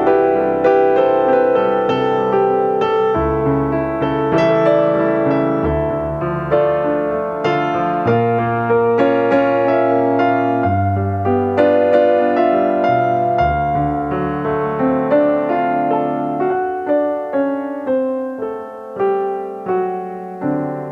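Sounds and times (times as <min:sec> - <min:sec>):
piano music: 0:00.0 - 0:20.9.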